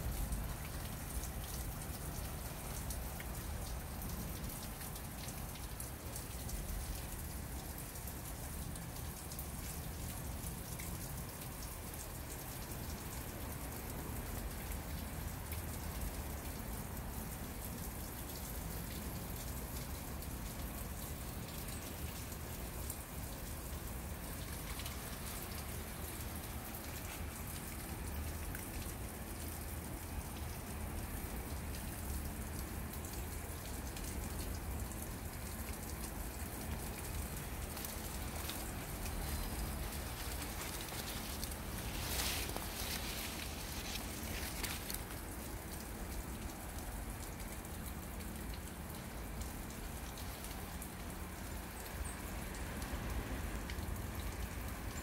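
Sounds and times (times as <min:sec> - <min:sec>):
water trickling into pool: 0:00.0 - 0:55.0.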